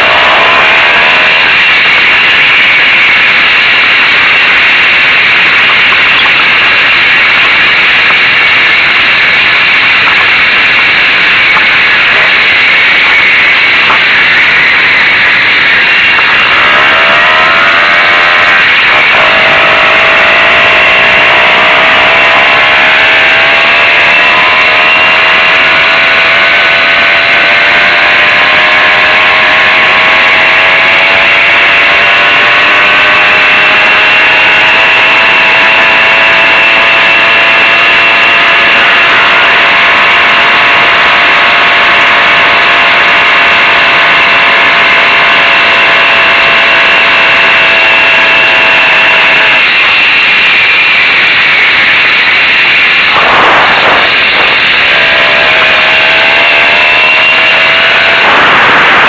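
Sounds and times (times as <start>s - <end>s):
moped two-stroke engine running: 0.0s - 59.0s.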